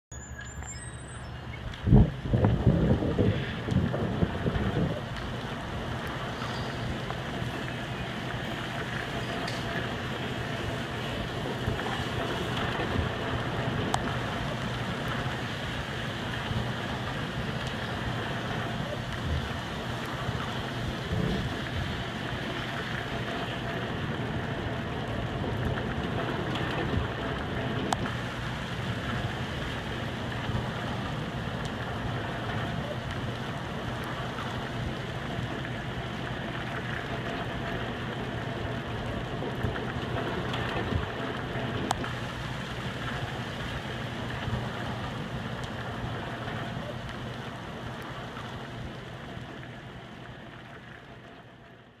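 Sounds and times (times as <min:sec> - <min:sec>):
steady rain: 0:00.2 - 0:52.0.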